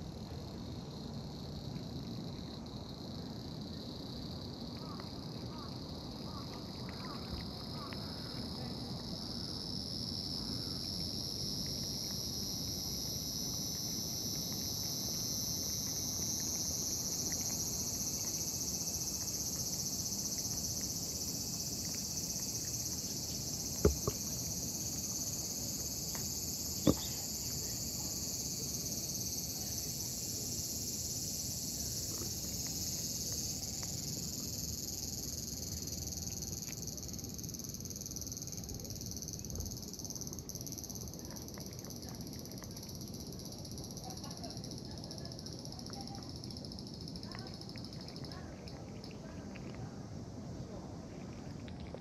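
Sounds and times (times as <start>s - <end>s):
low outdoor background noise: 0.0s - 52.0s.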